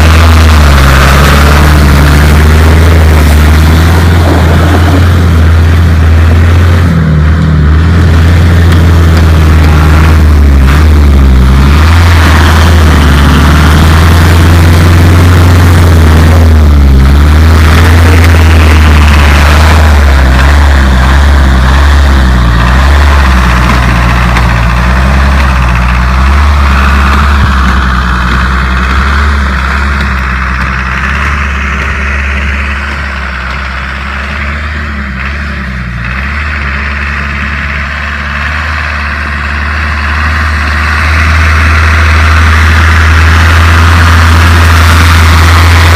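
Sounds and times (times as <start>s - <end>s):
off-road vehicle engine in snow: 0.0s - 45.9s.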